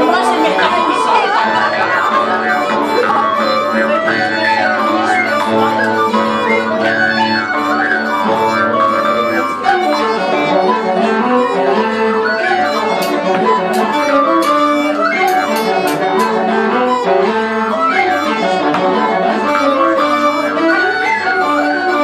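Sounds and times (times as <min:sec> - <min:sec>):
flute: 0:00.0 - 0:22.0
uilleann pipes playing fast reel: 0:00.0 - 0:22.0
whistle: 0:01.6 - 0:22.0.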